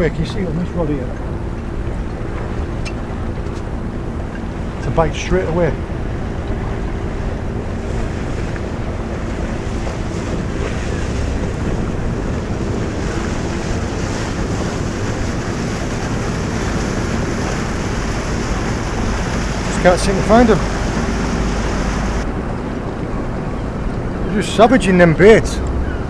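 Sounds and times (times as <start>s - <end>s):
wind on microphone: 0.0s - 24.4s
water lapping around boat: 0.0s - 26.0s.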